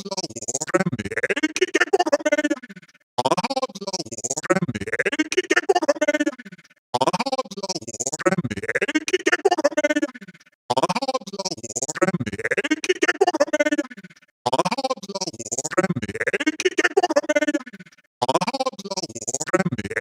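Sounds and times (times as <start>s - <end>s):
stuttering robotic voices: 0.0s - 20.0s.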